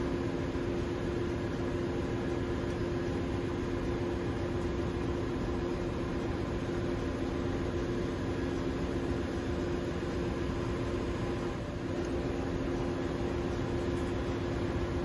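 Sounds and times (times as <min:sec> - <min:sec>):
engine-room machinery drone: 0:00.0 - 0:15.0.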